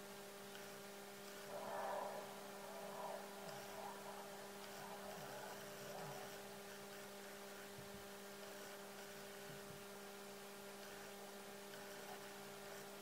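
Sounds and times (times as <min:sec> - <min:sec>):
faint electrical hum: 0:00.0 - 0:13.0
light hiss: 0:00.0 - 0:13.0.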